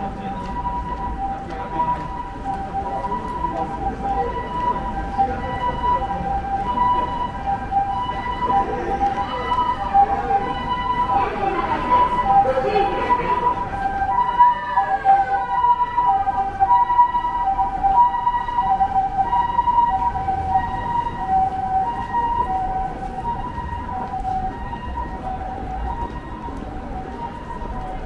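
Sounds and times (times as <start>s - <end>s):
two-tone ambulance siren: 0.0s - 28.0s.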